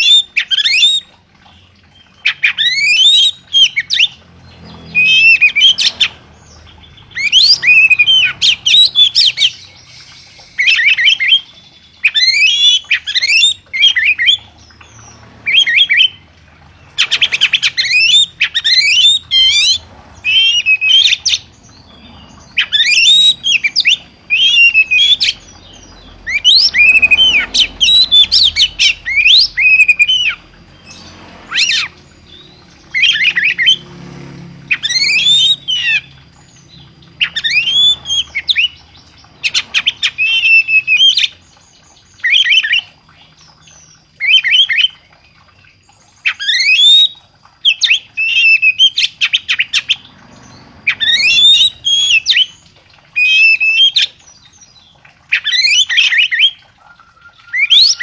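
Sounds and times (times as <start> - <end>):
songbird singing whistles: 0.0 - 1.2, 2.1 - 16.2, 17.0 - 33.8, 34.7 - 45.1, 46.2 - 50.1, 50.8 - 54.3, 55.3 - 58.0.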